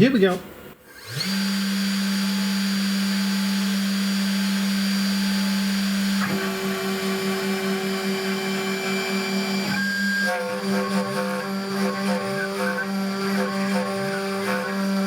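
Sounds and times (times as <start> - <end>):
router spindle whine: 0.9 - 15.0.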